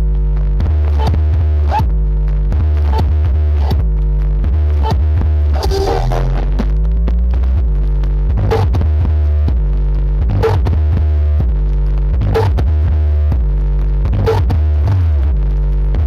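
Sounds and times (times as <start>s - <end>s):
bass-heavy music: 0.0s - 16.0s
deep sustained bass notes: 0.0s - 16.0s.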